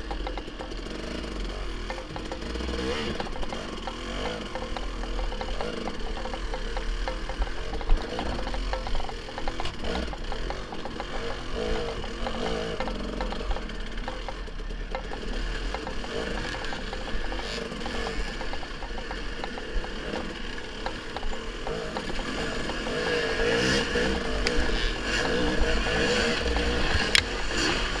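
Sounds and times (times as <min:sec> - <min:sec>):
dirt bike engine under load: 0:00.0 - 0:28.0
tyres clattering over loose rock: 0:00.0 - 0:28.0.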